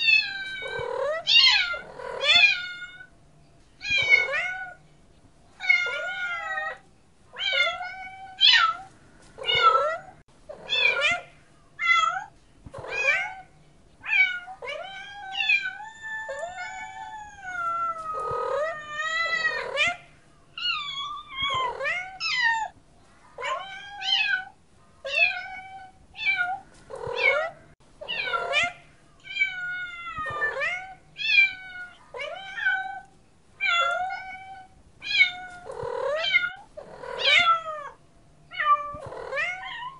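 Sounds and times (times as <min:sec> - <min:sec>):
cats meowing: 0:00.0 - 0:03.1, 0:03.8 - 0:04.8, 0:05.6 - 0:06.8, 0:07.4 - 0:22.8, 0:23.4 - 0:39.9.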